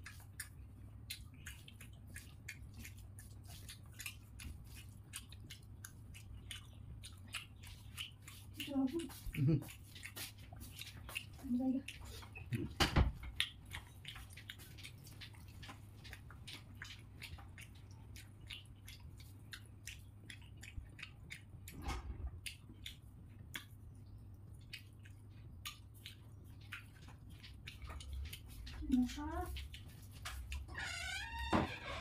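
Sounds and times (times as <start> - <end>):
wet chewing and mouth clicks: 0.0 - 32.0.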